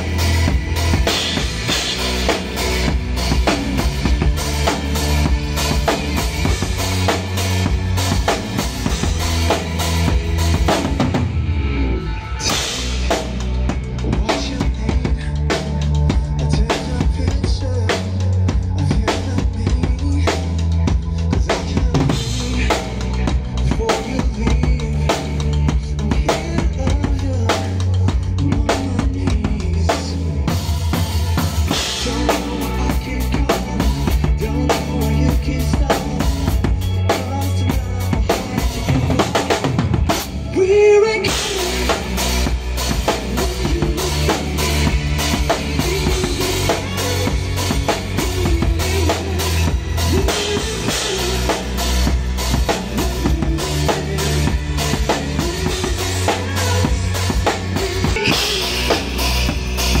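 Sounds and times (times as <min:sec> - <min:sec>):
live rock band: 0:00.0 - 1:00.0.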